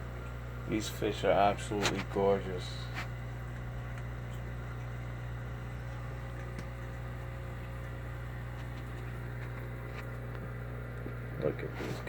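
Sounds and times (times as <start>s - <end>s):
aquarium equipment humming: 0.0s - 12.0s.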